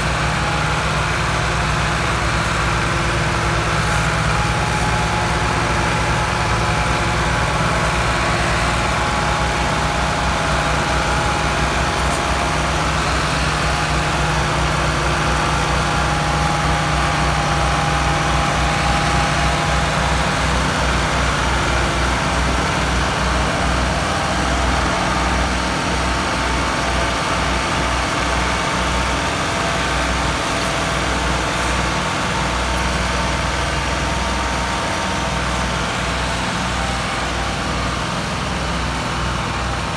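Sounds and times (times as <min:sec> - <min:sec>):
diesel tractor engines under load: 0:00.0 - 0:39.9.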